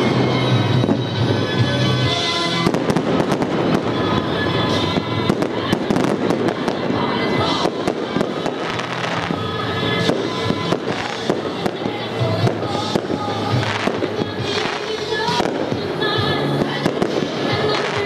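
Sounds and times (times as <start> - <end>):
fireworks bursting with bangs: 0.0 - 18.0
music with singing voice: 0.0 - 18.0.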